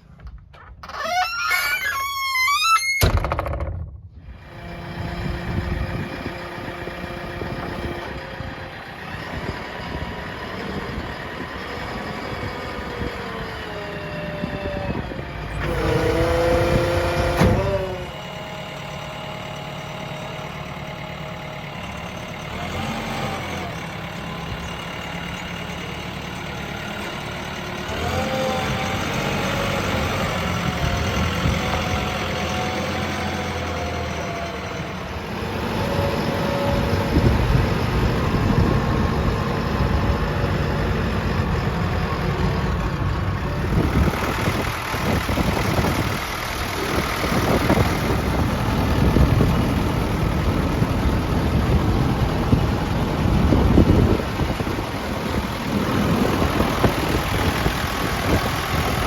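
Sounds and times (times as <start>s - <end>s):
diesel engines running: 4.1s - 59.0s
engine revving: 4.3s - 18.9s, 21.9s - 24.0s, 27.2s - 59.0s.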